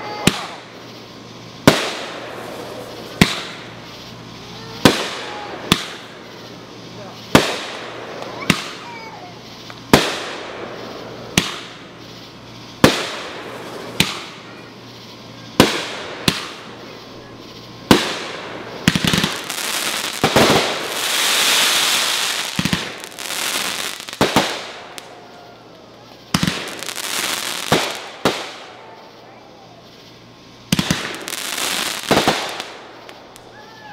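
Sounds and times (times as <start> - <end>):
dense fireworks hissing: 0.0 - 33.9
fireworks bangs: 0.0 - 33.9.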